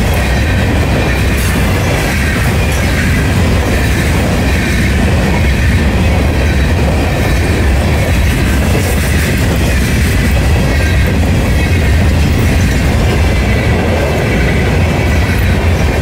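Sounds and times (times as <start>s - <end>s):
faint train clacks: 0.0s - 16.0s
freight train wheels rumbling: 0.0s - 16.0s.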